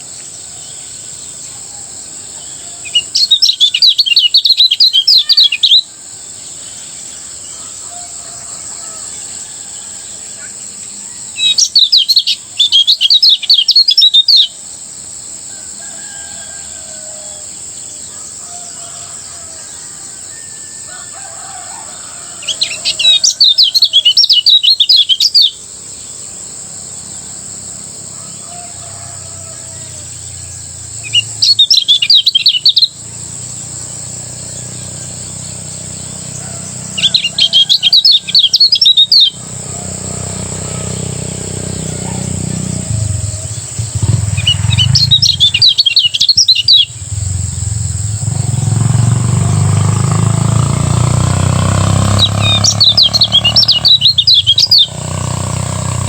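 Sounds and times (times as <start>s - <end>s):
bird singing rapid high chirps: 0.0s - 15.3s, 22.3s - 27.8s, 30.0s - 56.0s
high insect drone: 0.0s - 56.0s.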